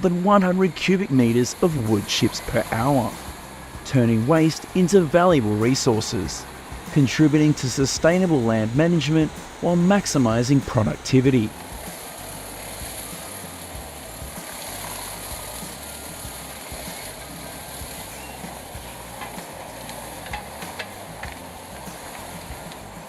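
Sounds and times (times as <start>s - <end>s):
wood chipper hissing: 0.0s - 23.0s
crackles: 0.3s - 23.0s.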